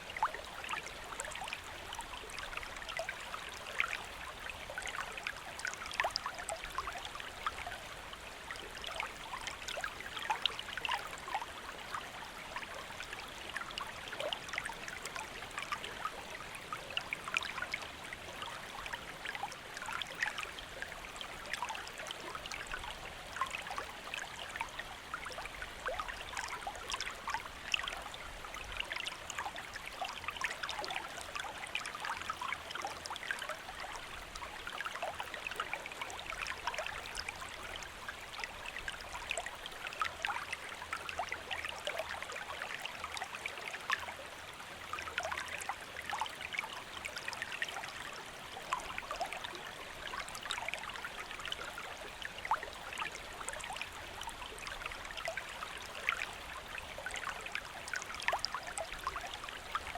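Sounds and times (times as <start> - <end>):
small splashes and trickles: 0.0 - 59.9
stream flowing over rocks: 0.0 - 59.9.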